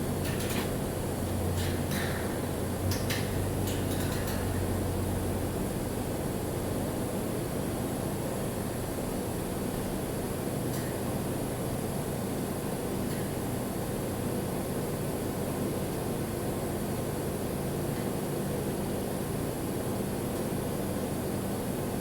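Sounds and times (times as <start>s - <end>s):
mechanical hum with hiss: 0.0s - 22.0s.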